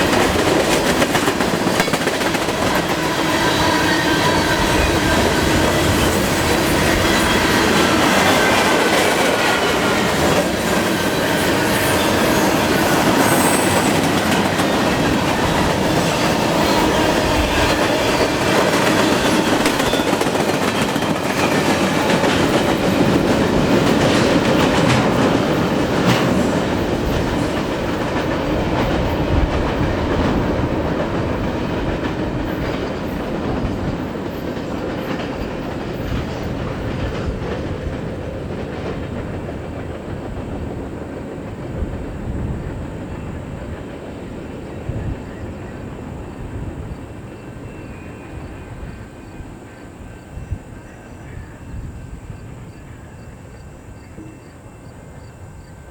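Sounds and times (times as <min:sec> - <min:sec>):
freight train wheels clicking on rails: 0:00.0 - 0:55.8.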